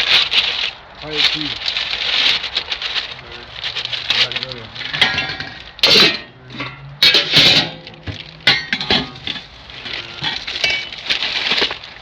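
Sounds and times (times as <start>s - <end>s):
objects clattering and rustling: 0.0s - 12.0s.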